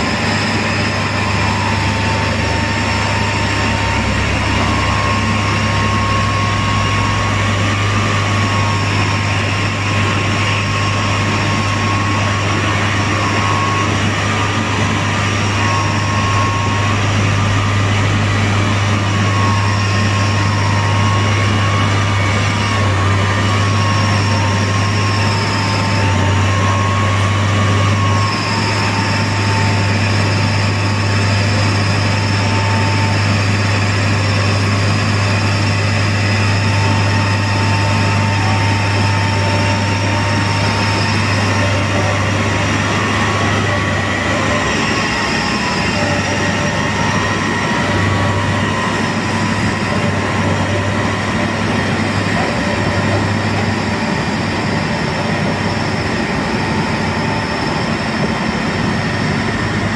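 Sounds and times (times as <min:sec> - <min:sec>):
machine engine hum with whine: 0:00.0 - 0:59.9.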